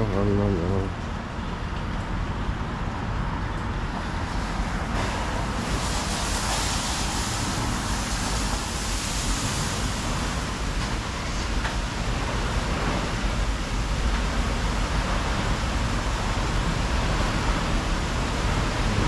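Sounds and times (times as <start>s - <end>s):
car wash water spray and machinery: 0.0s - 19.0s.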